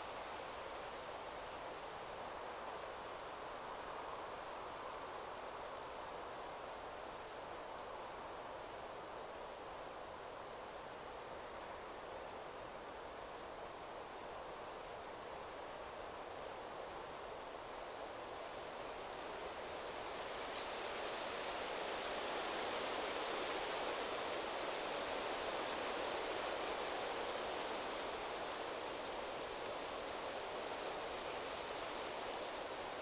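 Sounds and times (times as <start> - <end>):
wind rustling trees: 0.0 - 33.0.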